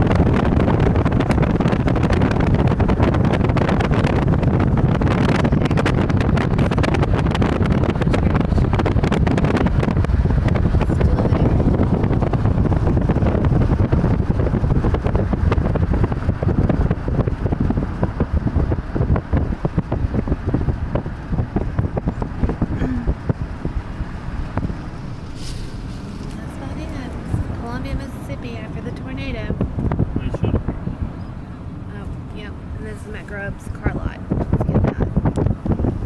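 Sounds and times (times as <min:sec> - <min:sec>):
car road noise: 0:00.0 - 0:36.0
wind buffeting microphone: 0:00.0 - 0:36.0.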